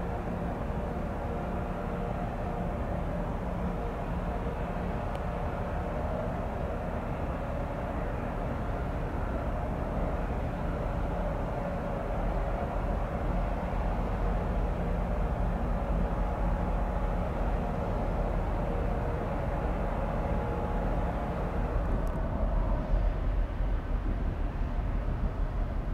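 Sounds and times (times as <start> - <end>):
ship diesel engines droning: 0.0 - 25.9.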